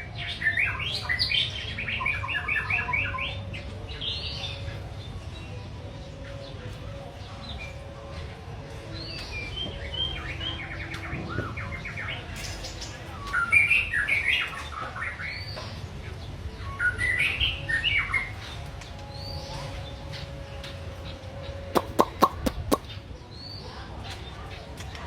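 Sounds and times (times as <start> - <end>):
songbird singing: 0.0 - 25.0.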